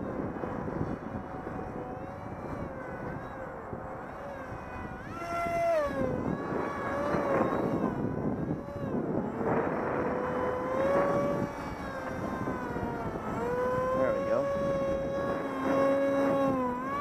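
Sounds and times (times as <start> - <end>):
electric motor propeller whine: 0.0 - 17.0
wind buffeting microphone: 0.0 - 17.0.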